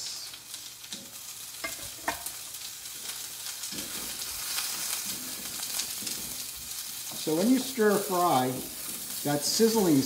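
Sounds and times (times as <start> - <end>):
vegetables sizzling in oil: 0.0 - 10.0
spatula scraping wok: 0.9 - 10.0.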